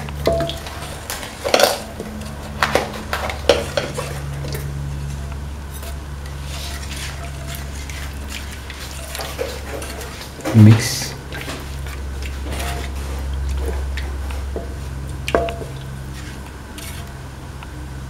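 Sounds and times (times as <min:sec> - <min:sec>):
utensil scraping metal pan: 0:00.0 - 0:17.3
steady low hum: 0:00.0 - 0:18.0.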